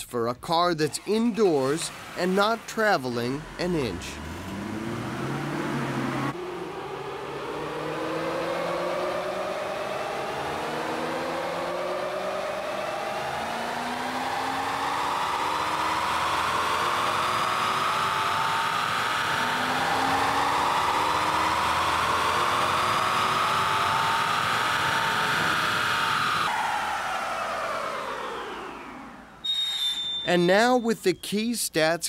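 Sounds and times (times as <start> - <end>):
tyres whining on rollers: 0.8 - 30.8
car engine revving hard: 0.9 - 29.3.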